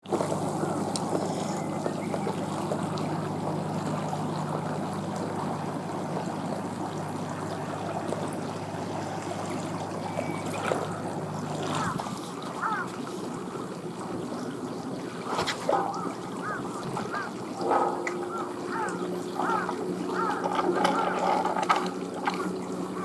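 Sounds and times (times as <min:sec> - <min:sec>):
low motor hum: 0:00.0 - 0:12.9, 0:13.5 - 0:23.0
water trickling and splashing: 0:00.0 - 0:23.0.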